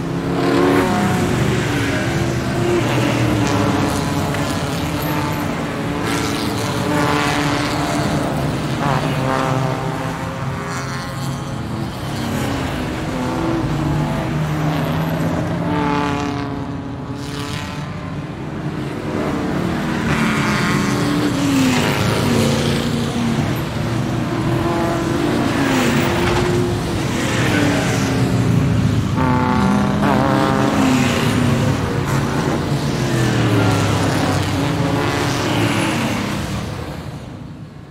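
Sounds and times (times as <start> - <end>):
racing car engines revving and passing: 0.0 - 37.9.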